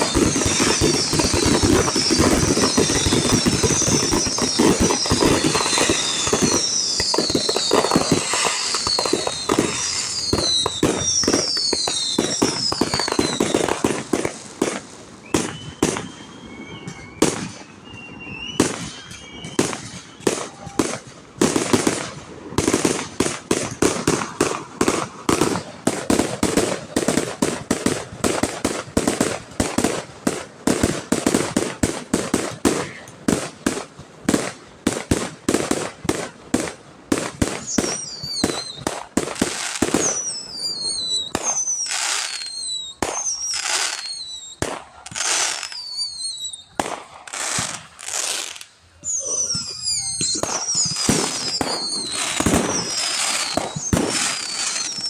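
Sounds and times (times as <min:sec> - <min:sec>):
falling whistles of fireworks: 0:00.0 - 0:55.0
fireworks bangs and crackling: 0:00.0 - 0:55.0
sharp fireworks reports: 0:00.0 - 0:55.0.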